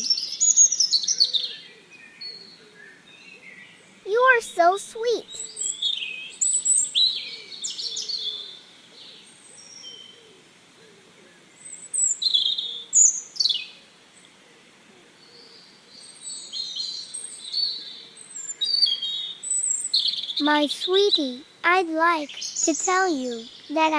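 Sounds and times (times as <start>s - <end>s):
small birds chirping: 0.0s - 10.5s, 11.4s - 23.9s.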